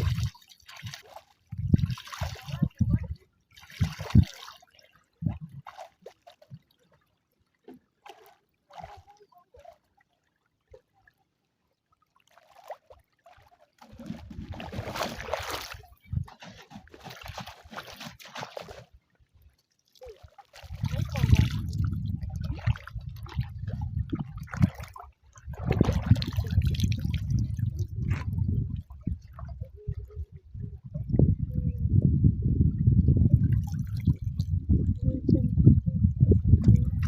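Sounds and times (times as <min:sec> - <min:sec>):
water splashing and sloshing: 0:00.0 - 0:31.8, 0:32.7 - 0:37.0.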